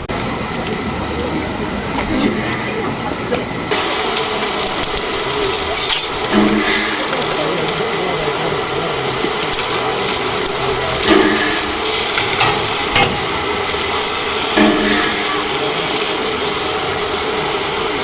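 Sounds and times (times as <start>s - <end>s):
steam train hissing: 0.0s - 18.0s.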